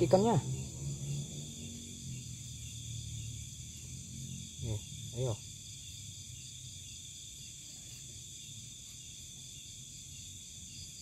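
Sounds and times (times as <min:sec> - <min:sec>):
night insects chirping: 0:00.0 - 0:11.0.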